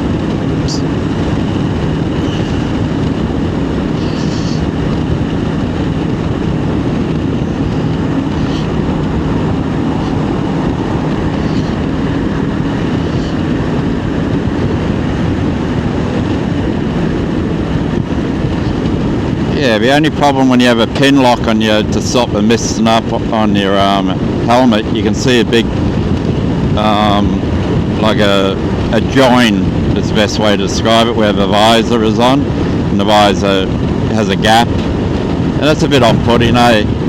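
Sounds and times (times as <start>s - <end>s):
motorcycle engine droning: 0.0s - 37.0s
wind rushing over helmet: 0.0s - 37.0s.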